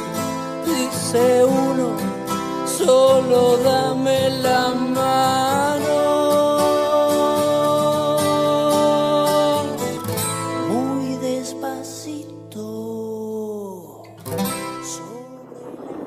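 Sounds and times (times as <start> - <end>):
acoustic guitar: 0.0 - 16.0
person singing: 0.5 - 10.0, 10.6 - 16.0.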